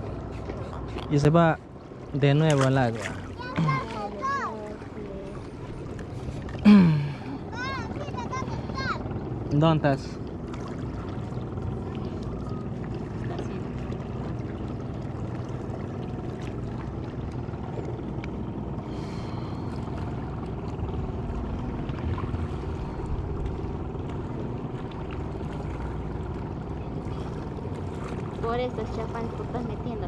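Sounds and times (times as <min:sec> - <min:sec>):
boat engine low rumble: 0:00.0 - 0:30.0
water noise: 0:00.0 - 0:30.0.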